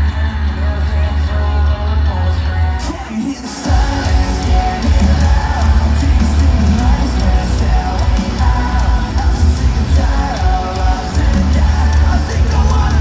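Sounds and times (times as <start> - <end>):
rock band playing live: 0.0 - 13.0
singing and shouted vocals: 0.0 - 13.0.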